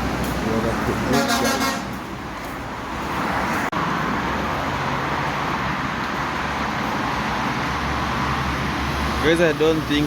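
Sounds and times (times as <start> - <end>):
highway traffic: 0.0 - 10.0.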